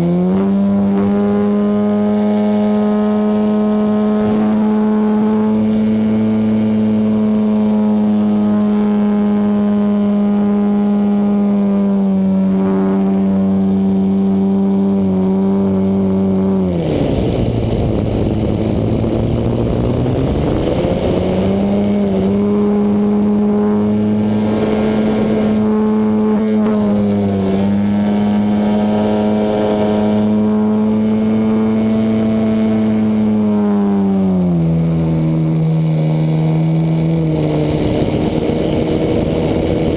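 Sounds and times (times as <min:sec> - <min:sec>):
model aeroplane engine running: 0:00.0 - 0:39.9.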